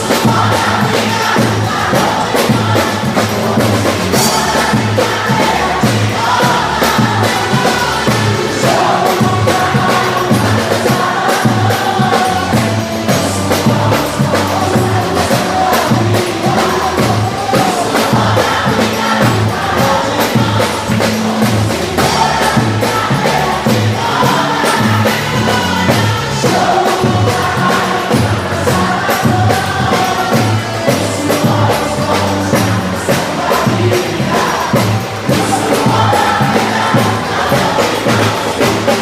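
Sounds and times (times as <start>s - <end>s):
bass line: 0.0s - 39.0s
group of voices singing: 0.0s - 39.0s
percussion beat: 0.0s - 39.0s.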